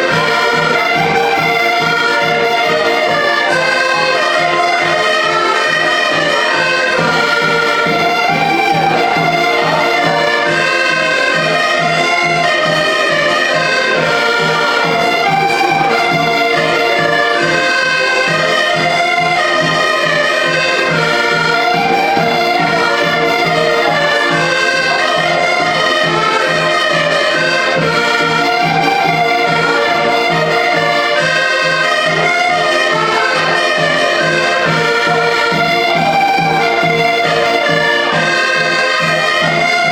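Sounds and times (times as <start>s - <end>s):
band playing a melody over a beat: 0.0s - 39.9s.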